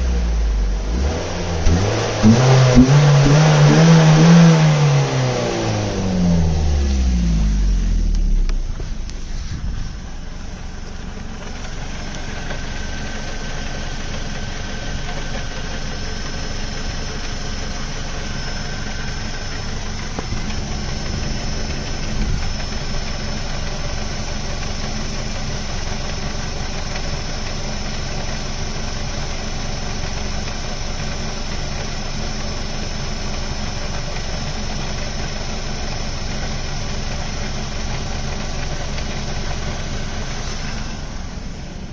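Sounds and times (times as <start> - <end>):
car engine idling: 0.0 - 41.9
engine rattle-knock: 8.1 - 41.9.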